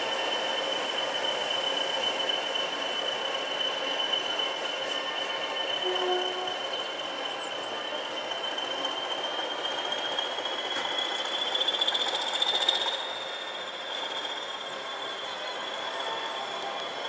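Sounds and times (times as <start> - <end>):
locomotive wheel squeal: 0.0 - 17.0.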